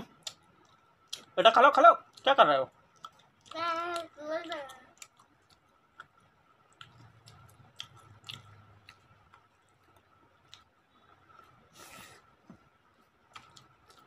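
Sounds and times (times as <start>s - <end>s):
chewing and wet mouth sounds: 0.0s - 11.8s, 12.5s - 14.0s.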